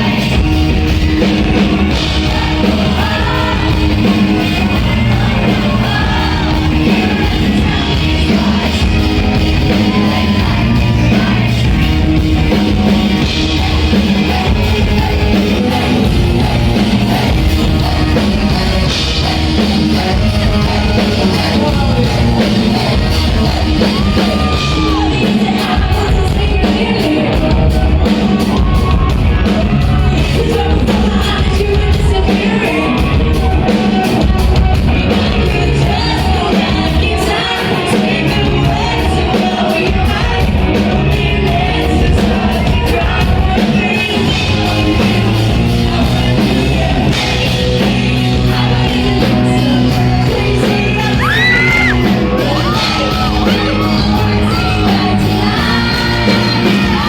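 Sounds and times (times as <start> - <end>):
rock band playing live: 0.0 - 57.0
yelled vocals: 0.0 - 57.0.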